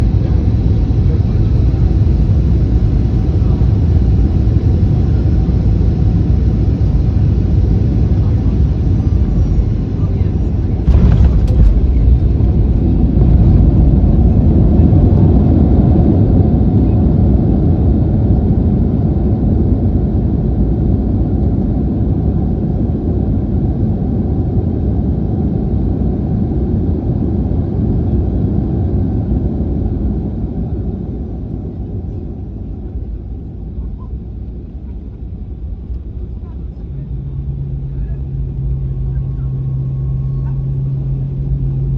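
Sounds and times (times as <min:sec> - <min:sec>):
airliner cabin rumble: 0:00.0 - 0:41.9.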